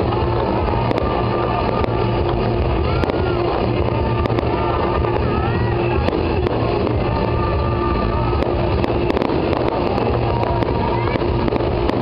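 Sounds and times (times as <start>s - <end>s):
fireworks din: 0.0s - 12.0s
music playing: 0.0s - 12.0s
sharp fireworks pops: 0.0s - 12.0s.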